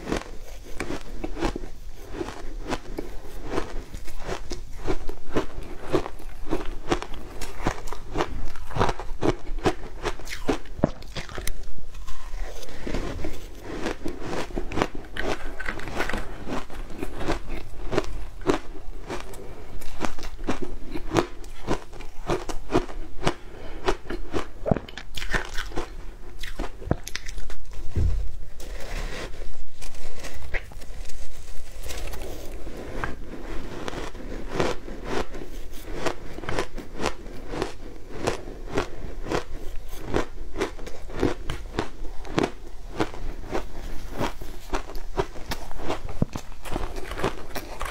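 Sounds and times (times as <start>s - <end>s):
crunching of shaved ice: 0.0s - 27.6s, 29.7s - 47.9s.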